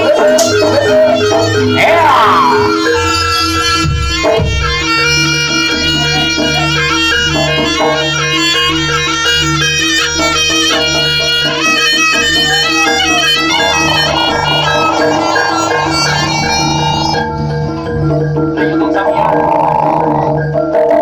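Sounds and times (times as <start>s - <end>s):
gamelan accompaniment: 0.0s - 21.0s
shrill double-reed melody: 0.8s - 19.1s.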